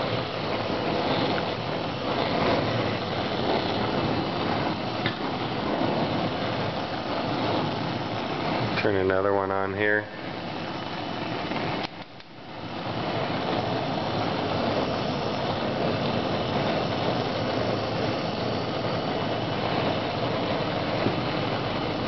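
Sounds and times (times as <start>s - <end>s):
gas burners rushing: 0.0s - 22.0s.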